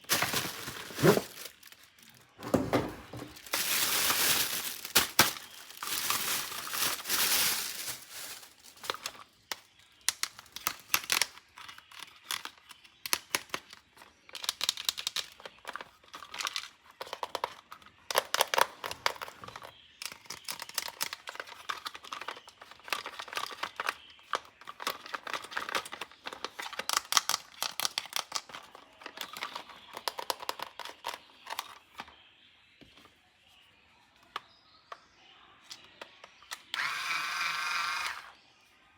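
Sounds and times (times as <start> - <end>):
plastic packaging crinkling and tearing: 0.0 - 32.0.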